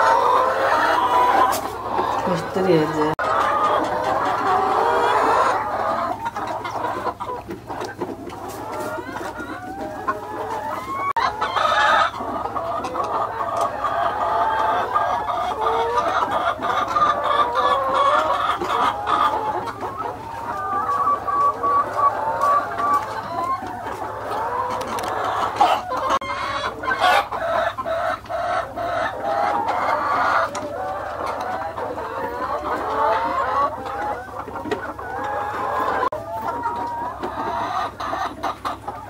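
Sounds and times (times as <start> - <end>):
hens clucking and calling: 0.0 - 39.0.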